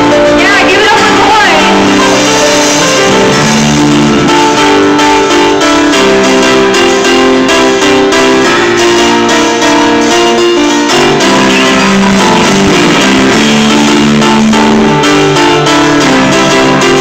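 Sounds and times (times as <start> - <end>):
electric guitars: 0.0 - 17.0
keyboard chords: 0.0 - 17.0.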